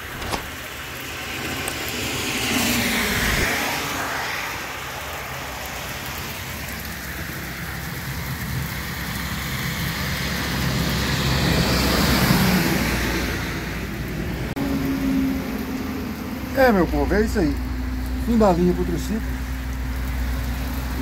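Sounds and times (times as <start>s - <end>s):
engines rumbling: 0.0s - 21.0s
truck passing: 0.0s - 21.0s
tyres hissing through water: 0.0s - 21.0s.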